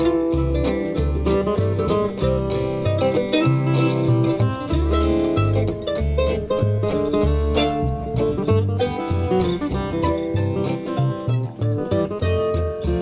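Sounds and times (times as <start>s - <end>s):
guitars strumming: 0.0s - 13.0s
mandolin picking: 0.0s - 13.0s
upright bass walking: 0.0s - 13.0s.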